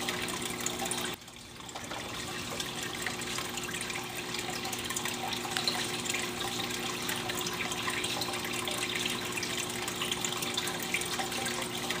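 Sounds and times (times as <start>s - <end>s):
filter water splashing: 0.0s - 12.0s
low pump hum: 0.0s - 12.0s.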